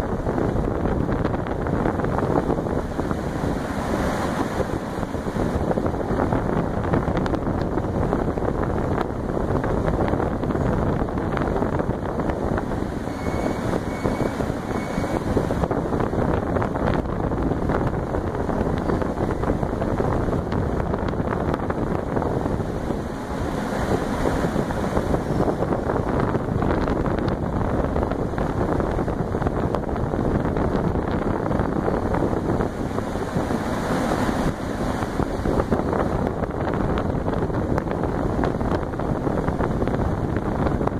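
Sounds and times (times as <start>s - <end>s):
air cooler fan blowing: 0.0s - 40.9s.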